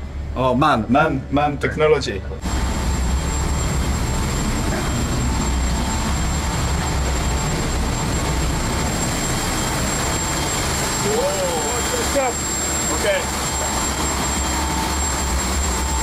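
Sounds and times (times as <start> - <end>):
diesel engines and generators: 0.0 - 16.0
high whine: 1.2 - 16.0.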